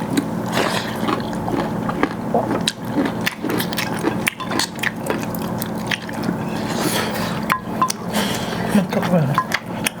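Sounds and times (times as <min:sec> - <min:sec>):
person chewing fried chicken: 0:00.0 - 0:10.0.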